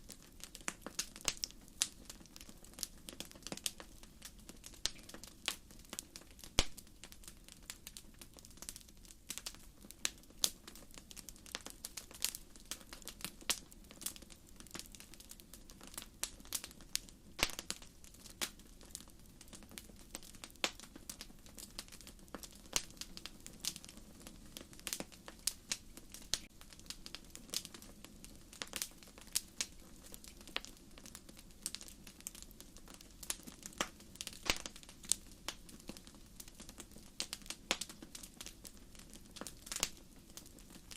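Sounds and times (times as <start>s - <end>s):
low rumble of flames: 0.0s - 40.9s
firewood popping and snapping: 0.2s - 15.2s, 15.9s - 40.9s.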